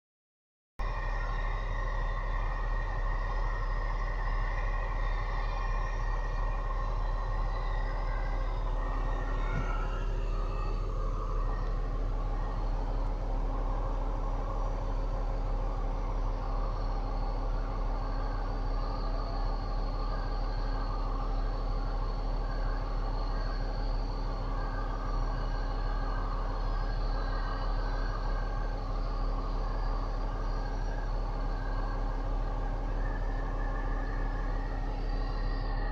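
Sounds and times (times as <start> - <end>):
deep constant hum: 0.8 - 35.9
heavy truck engines running: 0.9 - 35.9.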